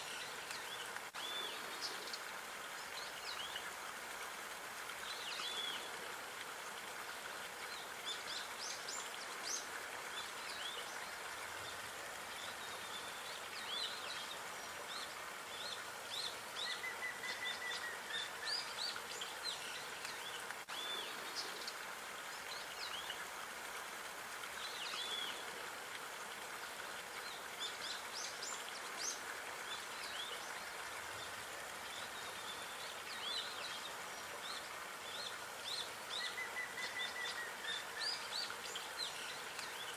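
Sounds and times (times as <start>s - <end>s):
outdoor ambience hiss: 0.0s - 39.9s
songbirds chirping and twittering: 0.0s - 39.9s.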